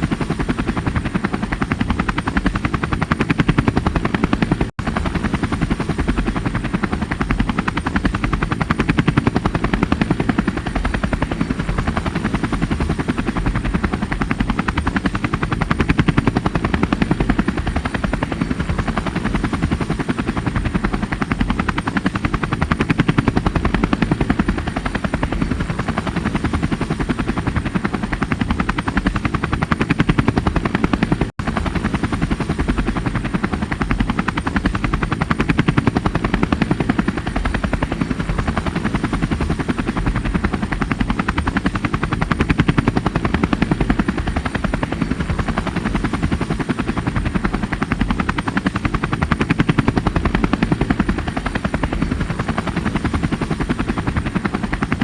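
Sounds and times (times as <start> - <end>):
helicopter rotor blades chopping: 0.0 - 55.0.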